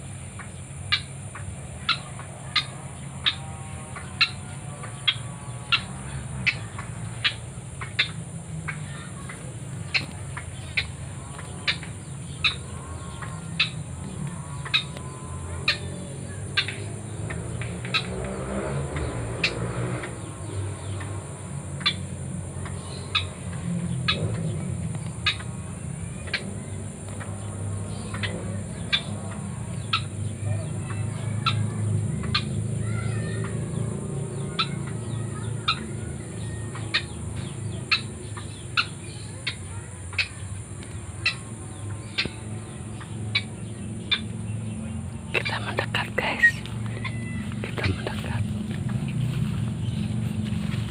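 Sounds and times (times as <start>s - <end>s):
bird clucking calls: 0.0s - 50.9s
low rumbling noise: 0.0s - 50.9s.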